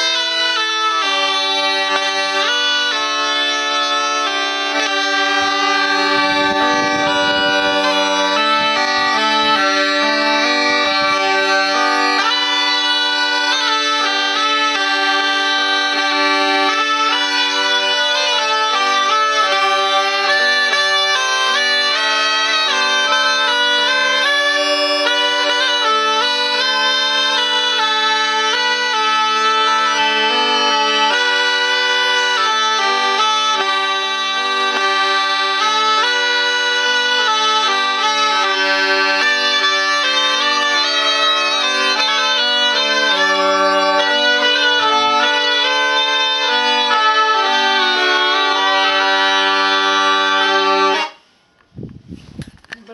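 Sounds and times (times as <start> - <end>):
bagpipe drone: 0.0 - 51.4
reedy shawm melody: 0.0 - 51.8.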